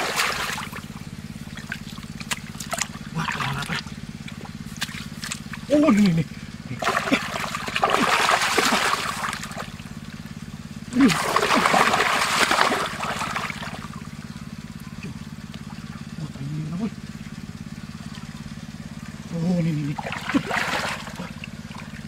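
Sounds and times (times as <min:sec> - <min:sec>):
water splashing and sloshing: 0:00.0 - 0:16.3, 0:17.0 - 0:22.0.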